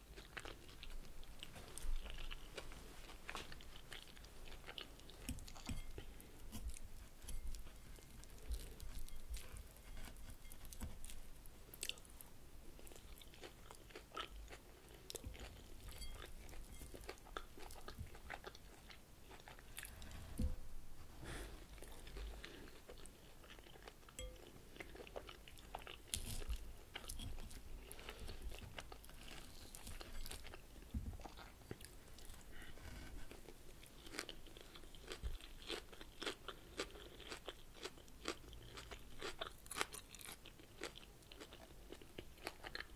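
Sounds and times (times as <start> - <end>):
crunchy salad chewing: 0.0 - 12.2, 12.8 - 20.6, 21.2 - 42.9.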